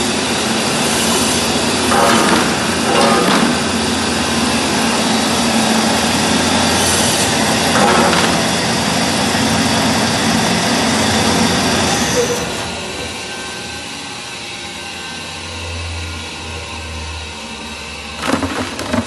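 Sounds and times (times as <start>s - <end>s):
cutting machine whirring and grinding: 0.0s - 19.0s.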